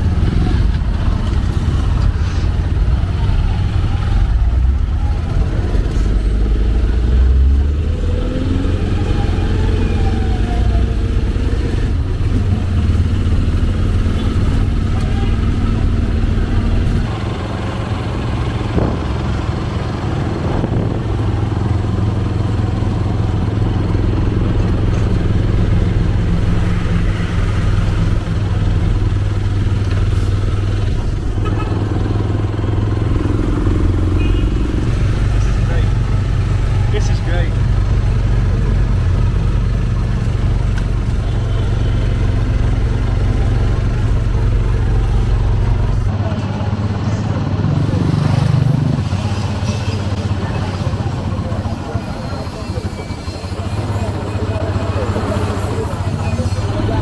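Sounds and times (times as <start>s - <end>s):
motorcycle taxi engine droning: 0.0s - 57.0s.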